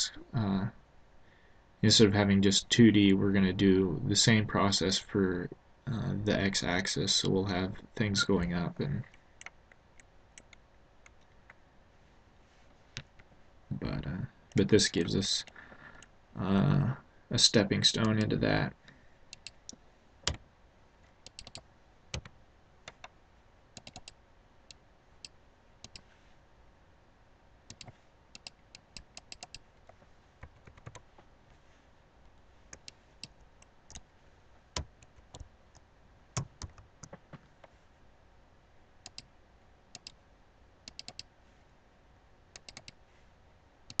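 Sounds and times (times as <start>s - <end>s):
low hiss: 0.0s - 44.0s.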